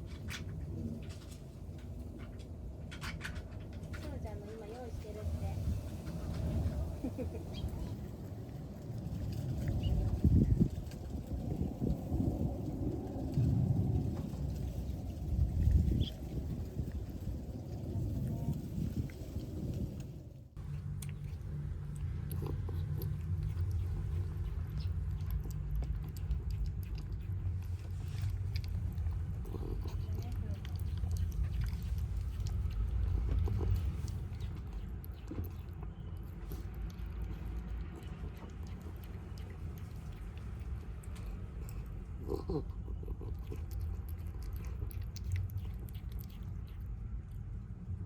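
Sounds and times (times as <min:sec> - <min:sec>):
cats chewing and crunching food: 0:00.0 - 0:48.0
steady low rumble: 0:00.0 - 0:48.0.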